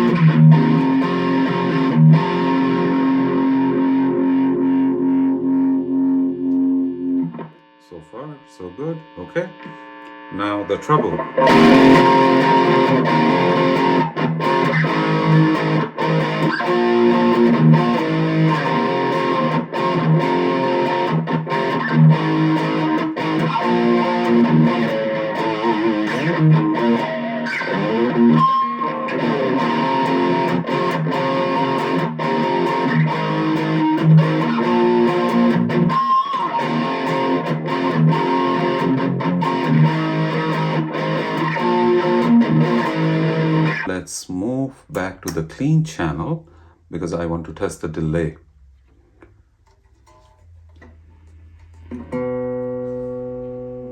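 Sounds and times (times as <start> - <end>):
distorted electric guitar riff: 0.0 - 46.8, 50.0 - 53.9.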